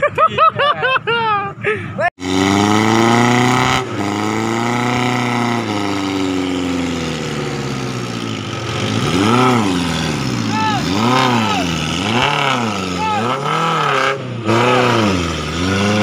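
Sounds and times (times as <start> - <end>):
engine revving hard: 2.2 - 16.0.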